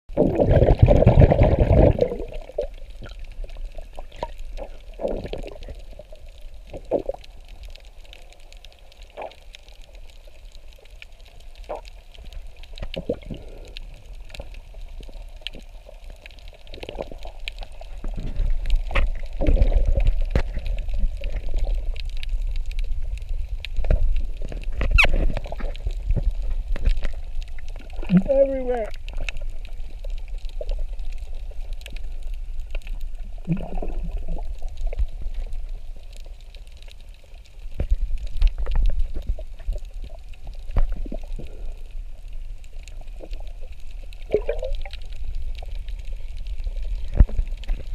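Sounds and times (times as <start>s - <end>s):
muffled underwater bubbling: 0.1s - 36.9s, 37.5s - 47.9s.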